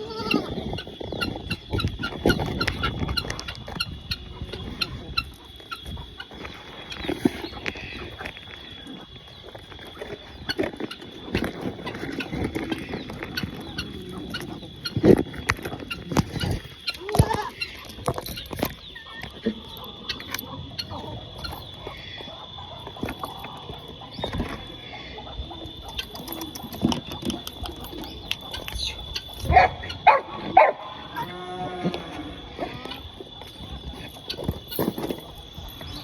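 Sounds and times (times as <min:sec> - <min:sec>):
farm animals calling: 0:00.0 - 0:36.0.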